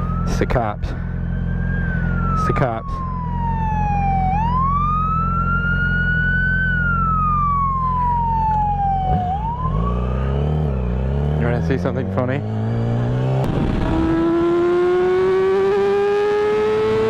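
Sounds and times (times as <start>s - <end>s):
police siren wailing: 0.0s - 17.0s.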